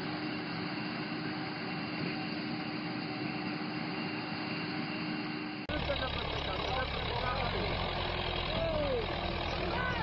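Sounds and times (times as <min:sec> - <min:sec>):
harvester machinery drone: 0:00.0 - 0:10.0.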